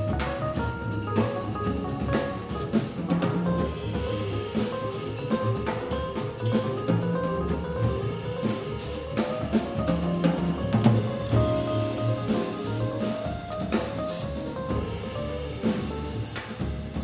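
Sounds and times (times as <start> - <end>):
double bass: 0.0 - 17.0
drum kit: 0.0 - 17.0
grand piano playing: 0.0 - 17.0.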